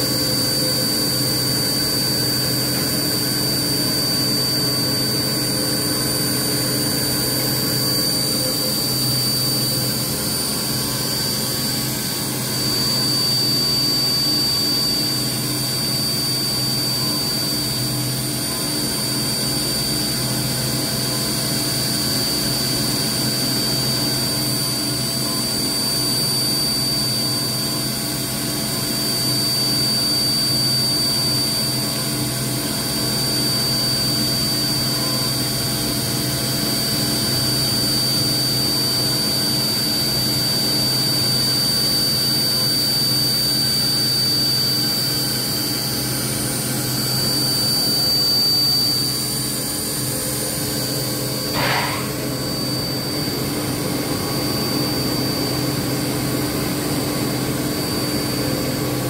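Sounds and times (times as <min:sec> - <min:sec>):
milling machine whining: 0:00.0 - 0:59.0.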